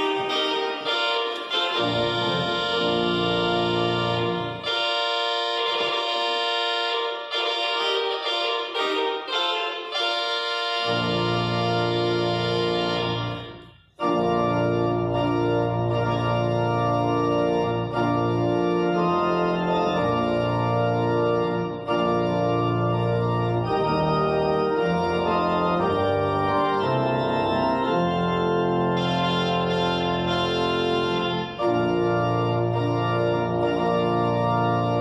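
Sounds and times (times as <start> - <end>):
church organ fanfare chords: 0.0 - 35.0.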